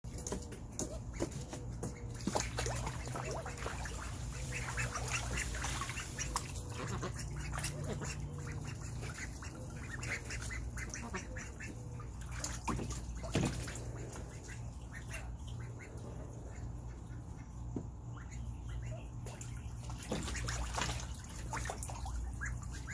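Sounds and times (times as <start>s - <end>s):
splashing in water: 0.1s - 15.9s, 19.2s - 22.9s
steady low hum: 0.1s - 22.9s
ducks quacking: 0.9s - 22.9s.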